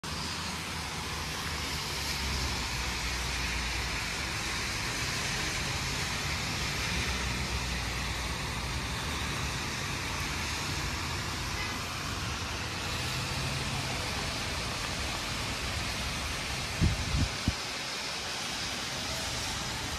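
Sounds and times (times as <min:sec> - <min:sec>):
steady rain: 0:00.0 - 0:19.9
traffic on wet roads: 0:00.0 - 0:19.9.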